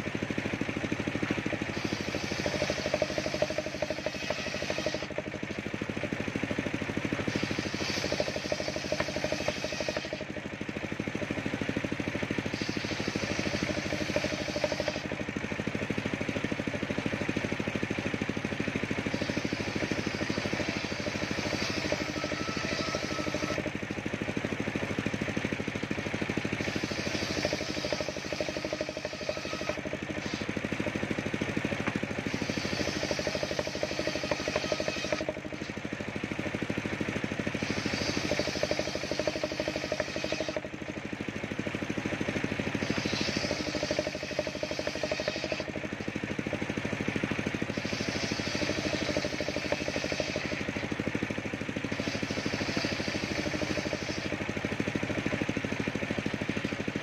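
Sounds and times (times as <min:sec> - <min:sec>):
circular saw cutting wood: 0:00.0 - 0:57.0.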